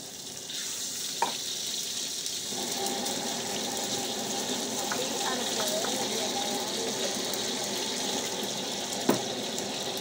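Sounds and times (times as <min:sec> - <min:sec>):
egg sizzling in oil: 0:00.0 - 0:10.0.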